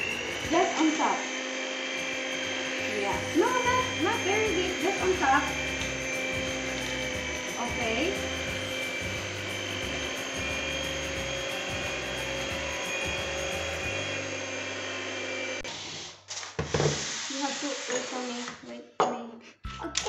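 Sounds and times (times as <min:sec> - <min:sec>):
electric hand mixer whirring: 0:00.0 - 0:18.5.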